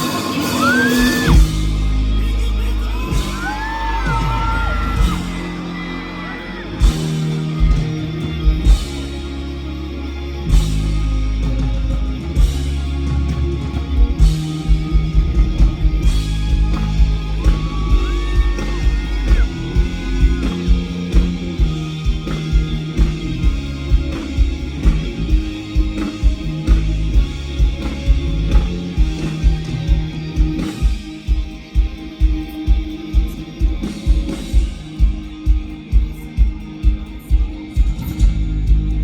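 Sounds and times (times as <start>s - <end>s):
live rock band playing: 0.0s - 39.0s.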